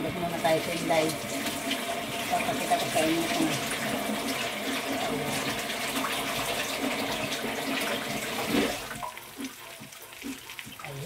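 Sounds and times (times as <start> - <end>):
fish frying in oil: 0.0 - 11.0
hands washing under water: 0.0 - 11.0
tap water running into sink: 0.0 - 11.0.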